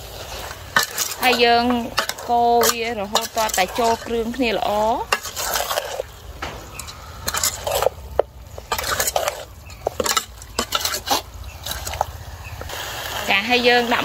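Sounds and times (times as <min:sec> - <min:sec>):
metal utensils clinking on cookware: 0:00.2 - 0:12.1.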